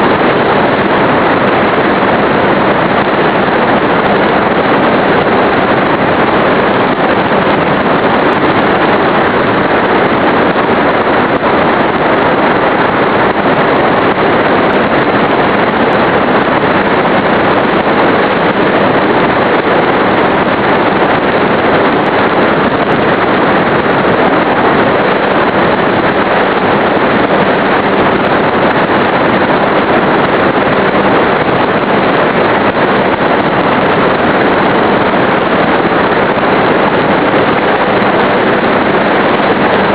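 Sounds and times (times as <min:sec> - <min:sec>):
wind and propeller rush: 0:00.0 - 0:39.9.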